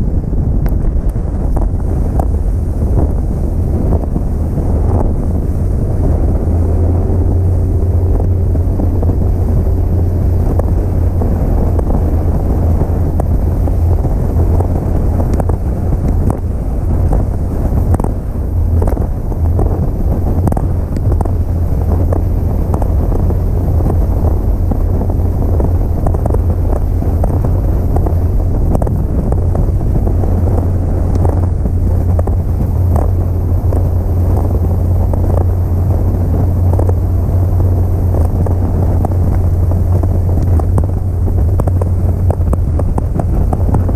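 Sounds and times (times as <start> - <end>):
outboard motor drone: 0.0 - 43.9
wind buffeting microphone: 0.0 - 43.9.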